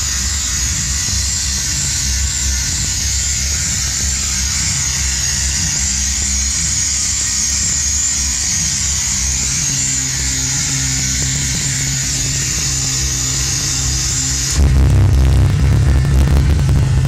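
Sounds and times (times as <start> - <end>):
steady high hiss: 0.0 - 16.2
electronic synthesizer music: 0.0 - 17.0
low droning hum: 0.0 - 17.0.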